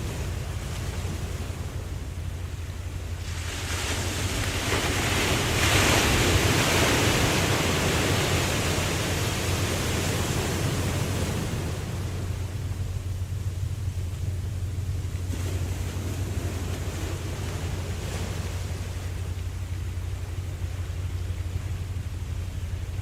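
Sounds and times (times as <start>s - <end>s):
low rumble: 0.0s - 23.0s
ocean wave washing in: 0.0s - 23.0s.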